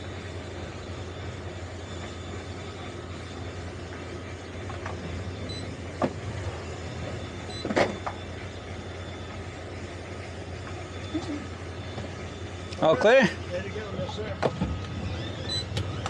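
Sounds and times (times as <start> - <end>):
boat engines humming: 0.0 - 16.0.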